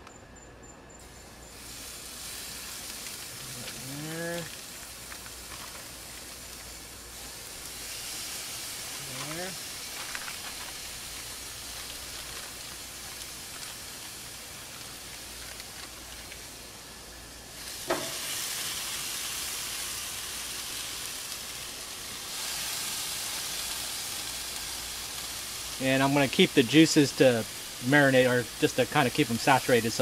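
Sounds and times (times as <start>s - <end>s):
fish steaks sizzling on grill: 1.0s - 30.0s.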